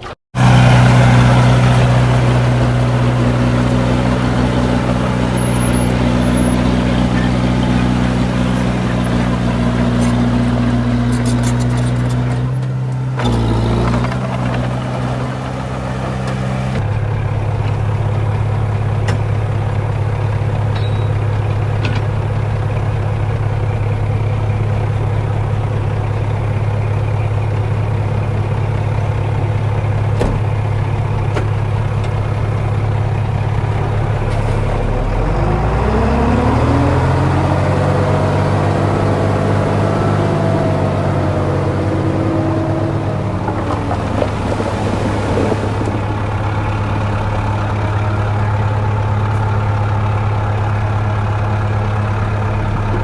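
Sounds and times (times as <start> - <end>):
heavy diesel engine revving: 0.0 - 53.0.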